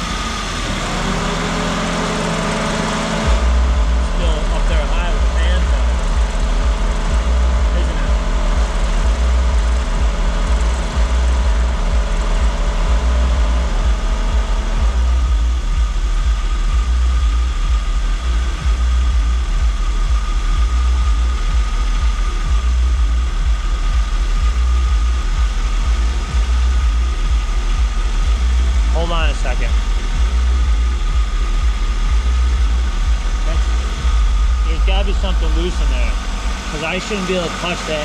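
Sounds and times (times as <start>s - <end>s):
car engine idling: 0.0s - 38.0s
steady tones: 0.0s - 38.0s.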